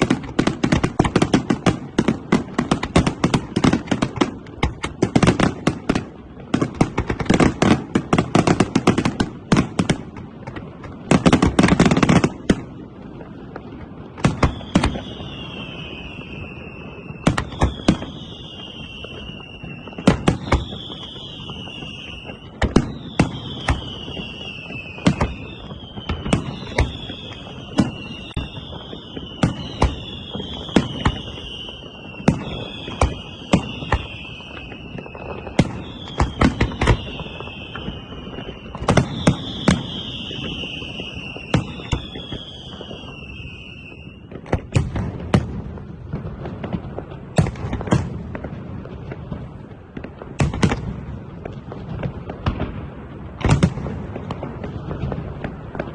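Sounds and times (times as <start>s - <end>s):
falling firework whistle: 0.0s - 55.9s
fireworks bangs: 0.0s - 55.9s.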